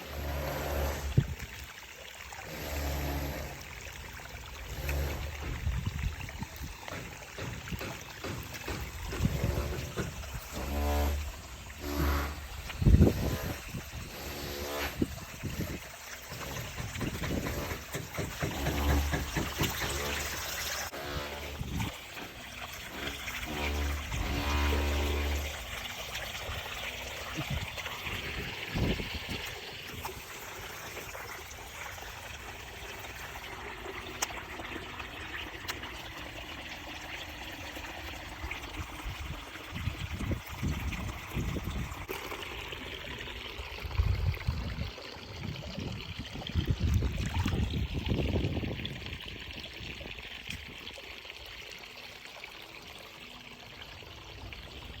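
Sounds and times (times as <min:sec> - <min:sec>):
seawater trickling and lapping: 0:00.0 - 0:55.0.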